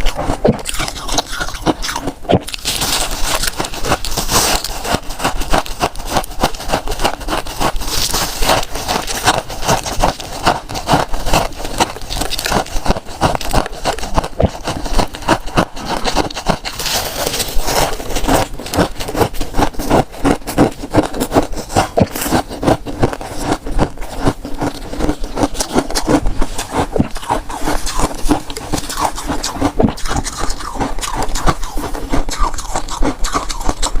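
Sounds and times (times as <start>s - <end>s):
frost crunching and scraping: 0.0s - 34.0s.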